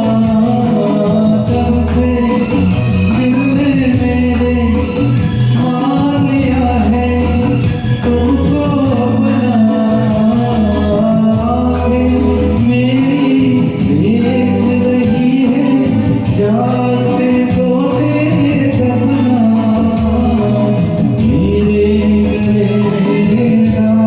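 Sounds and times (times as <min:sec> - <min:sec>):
karaoke backing track: 0:00.0 - 0:24.0
person singing: 0:00.0 - 0:24.0.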